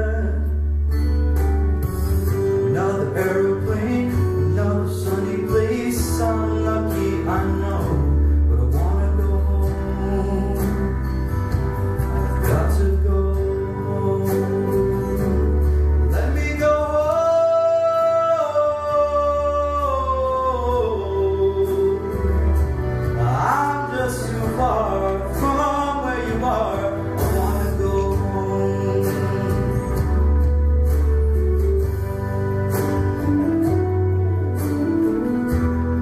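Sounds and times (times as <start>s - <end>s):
man singing a ballad: 0.0s - 1.0s, 2.4s - 30.7s
instrumental accompaniment with bass: 0.0s - 36.0s.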